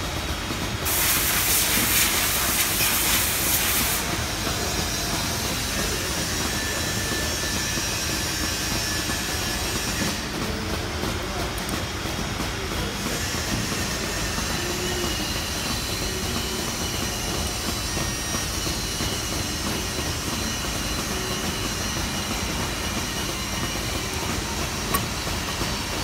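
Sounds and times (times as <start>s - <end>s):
machinery rumble and hiss: 0.0s - 26.0s.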